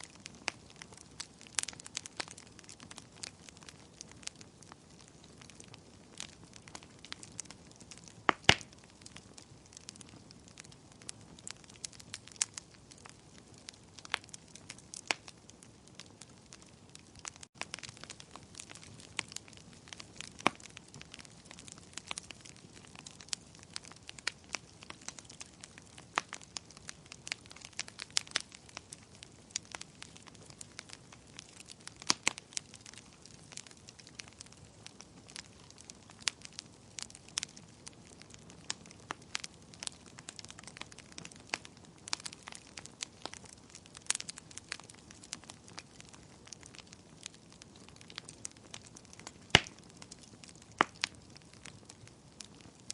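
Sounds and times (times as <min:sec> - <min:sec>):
fire crackling: 0:00.0 - 0:52.9.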